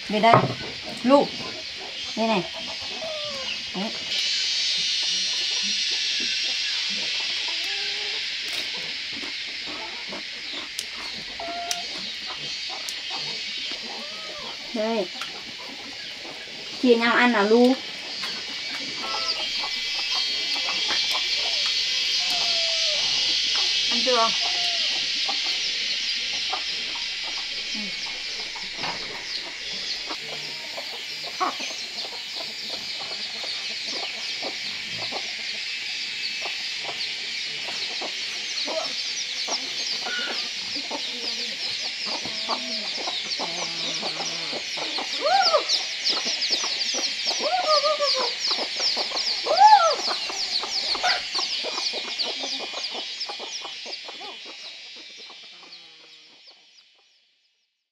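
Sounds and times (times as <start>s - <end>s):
high-pitched buzzing: 0.0s - 54.6s
chickens clucking: 0.0s - 57.0s.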